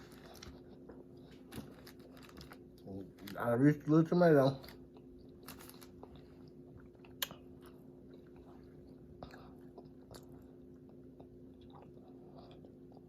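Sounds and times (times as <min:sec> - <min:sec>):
person chewing crispy food: 0:00.0 - 0:03.4, 0:04.6 - 0:13.0
faint steady hum: 0:00.0 - 0:13.0.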